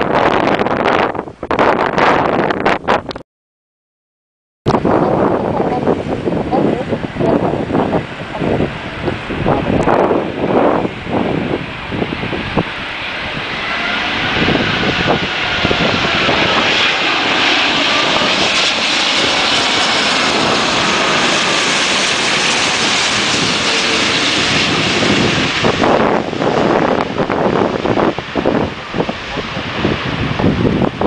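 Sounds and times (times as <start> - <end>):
jet engines roaring past: 4.7 - 31.0.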